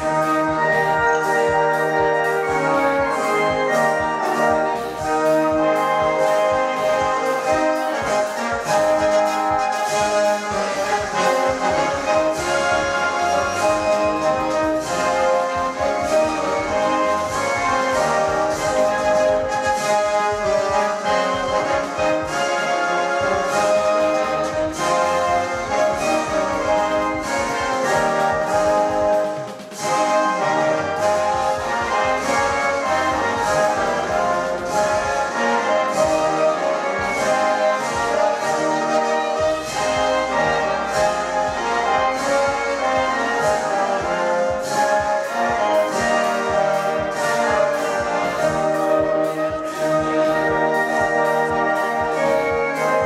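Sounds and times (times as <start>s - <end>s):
orchestral brass chords: 0.0s - 53.0s.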